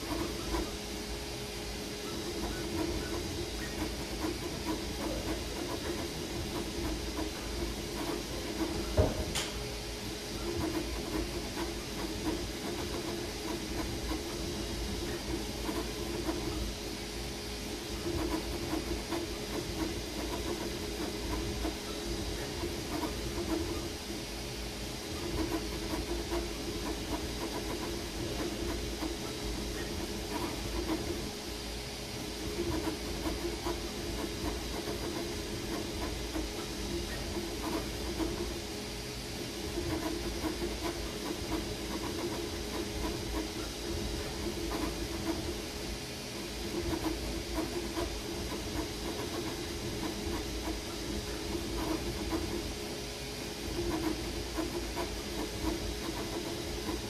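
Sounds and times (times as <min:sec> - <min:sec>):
cooling fans hissing: 0:00.0 - 0:57.0.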